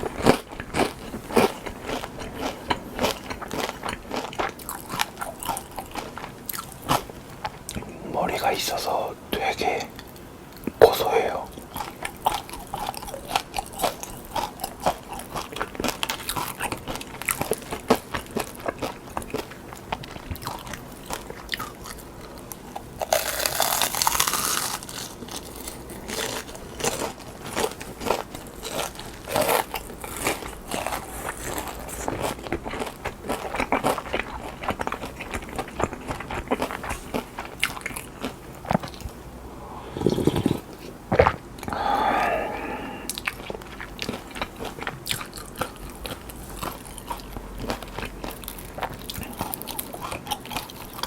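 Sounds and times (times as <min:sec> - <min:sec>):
crunching fried food: 0:00.0 - 0:08.4, 0:11.0 - 0:39.2, 0:43.1 - 0:51.0.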